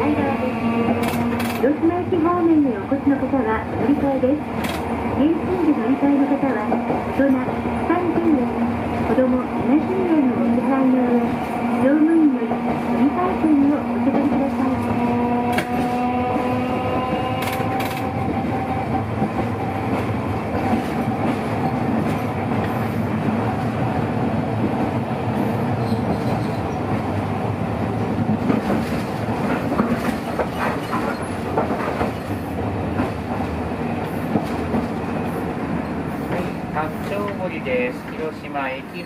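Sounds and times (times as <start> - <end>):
streetcar rumble: 0.0 - 39.0.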